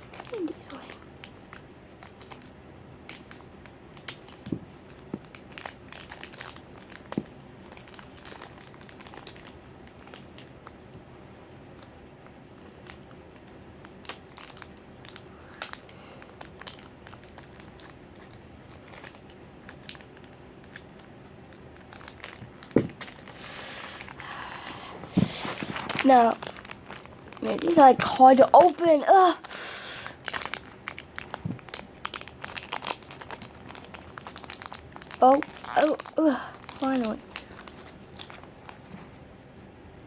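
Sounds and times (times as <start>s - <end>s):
plastic wrapper crinkling and tearing: 0.0s - 10.9s, 11.7s - 39.2s.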